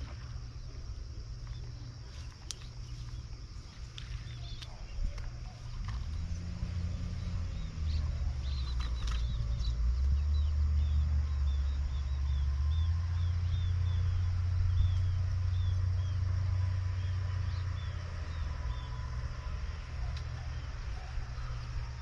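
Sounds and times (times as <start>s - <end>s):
low engine rumble: 0.0s - 22.0s
bird chirping: 1.4s - 22.0s.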